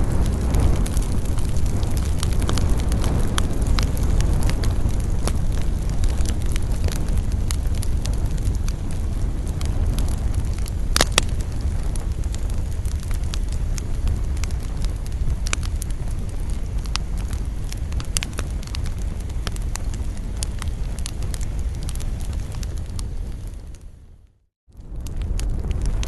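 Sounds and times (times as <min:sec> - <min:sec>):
campfire crackling and popping: 0:00.0 - 0:24.0, 0:24.7 - 0:26.0.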